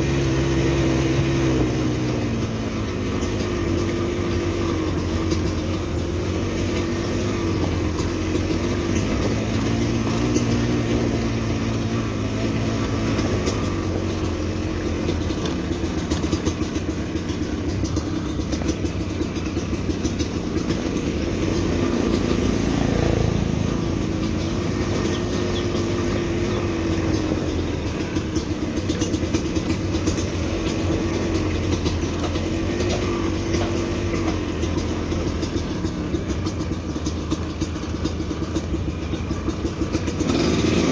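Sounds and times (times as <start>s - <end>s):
motorcycle engine revving: 0.0s - 40.9s
sharp clicks and rattles: 0.2s - 40.9s.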